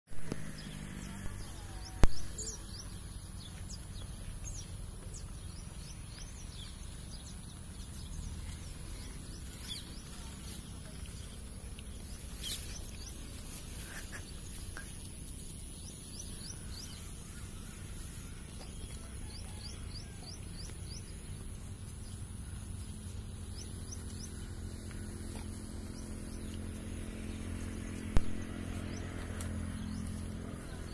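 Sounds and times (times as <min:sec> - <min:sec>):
steady low rumble: 0:00.2 - 0:30.9.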